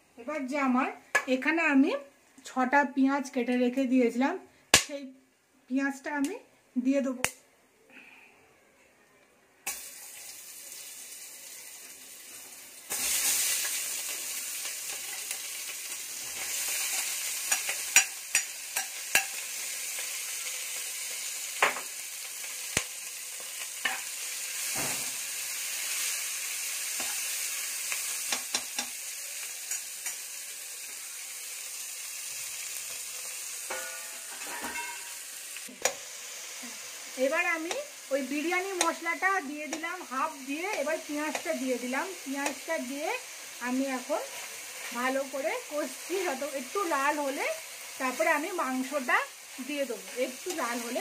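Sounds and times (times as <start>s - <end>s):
onions sizzling in hot oil: 9.6s - 51.0s.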